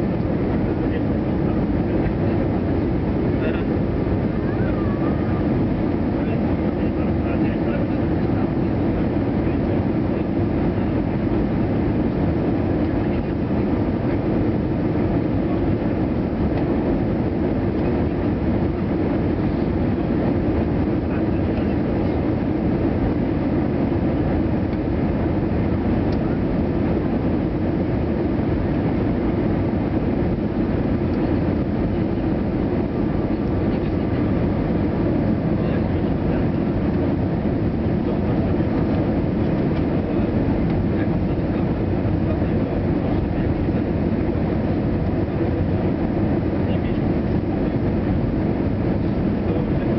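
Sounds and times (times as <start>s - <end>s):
airplane cabin engine rumble: 0.0s - 49.9s.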